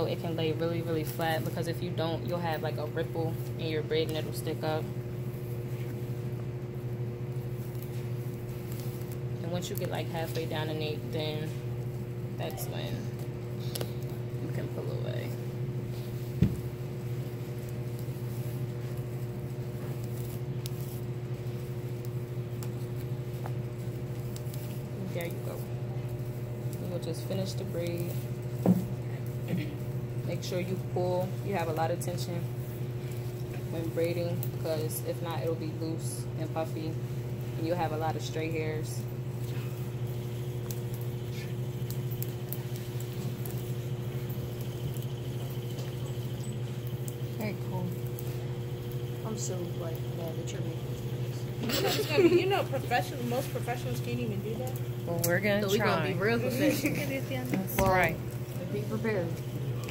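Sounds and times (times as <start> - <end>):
hair being braided: 0.0 - 59.9
low machine hum: 0.0 - 59.9.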